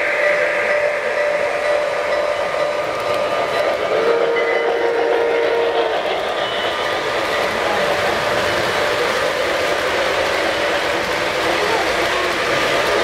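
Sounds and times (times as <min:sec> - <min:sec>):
model train wheels rattling on track: 0:01.4 - 0:13.0.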